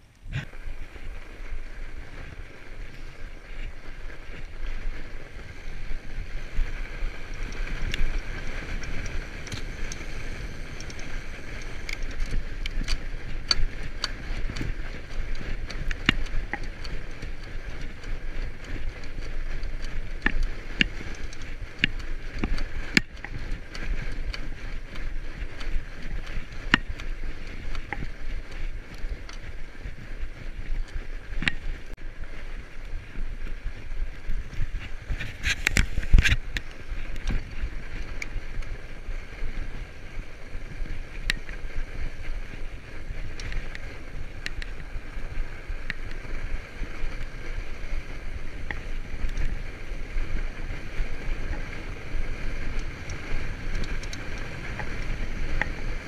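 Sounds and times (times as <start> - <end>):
bike ticking and rattling: 0.0 - 56.0
bike tyres crunching on snow: 0.0 - 56.0.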